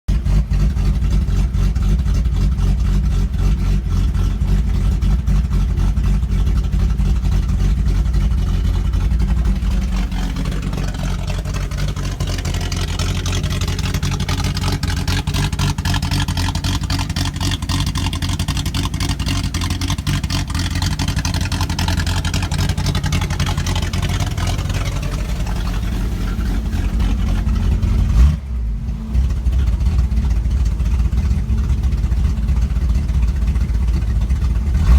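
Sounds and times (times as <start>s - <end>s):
lumpy car engine idling: 0.1s - 34.9s.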